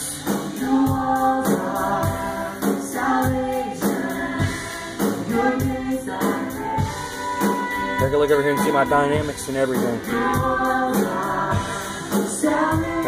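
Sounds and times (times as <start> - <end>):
choir singing gospel music: 0.0 - 13.0
instrumental accompaniment: 0.0 - 13.0.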